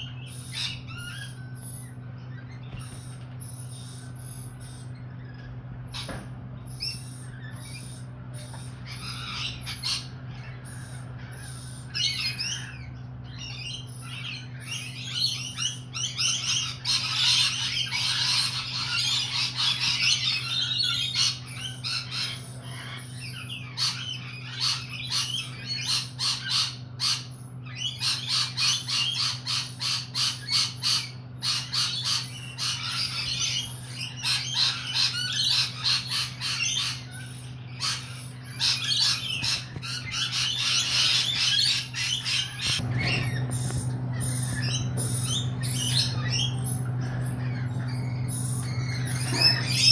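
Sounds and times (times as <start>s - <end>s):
lorikeets screeching and chattering: 0.0s - 49.9s
steady low hum: 0.0s - 49.9s.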